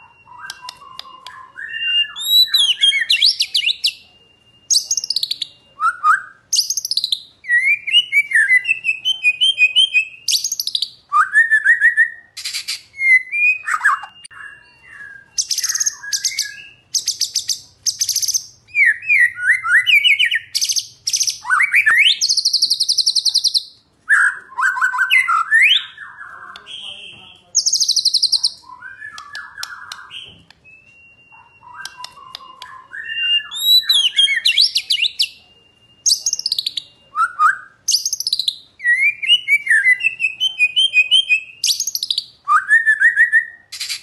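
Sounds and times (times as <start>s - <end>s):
songbird singing whistles and trills: 0.0s - 44.0s.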